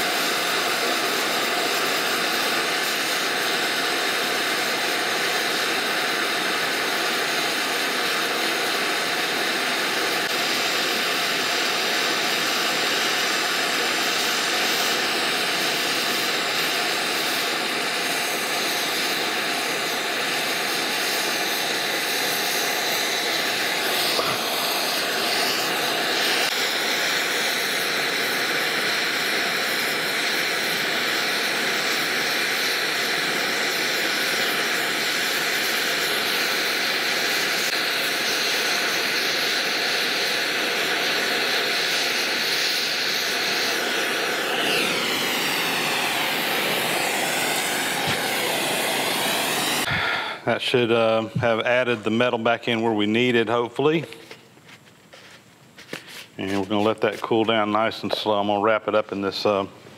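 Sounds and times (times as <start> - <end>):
gas torch roaring hiss: 0.0 - 59.9.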